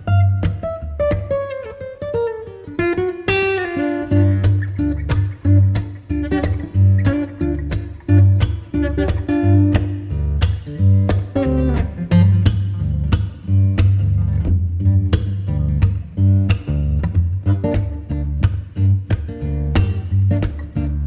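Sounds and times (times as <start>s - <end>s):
guitar music over bass beat: 0.0s - 21.0s.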